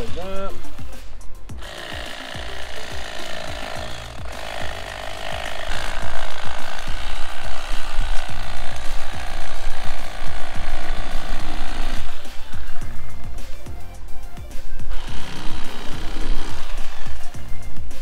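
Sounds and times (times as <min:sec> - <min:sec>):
electric knife buzzing: 0:00.0 - 0:18.0.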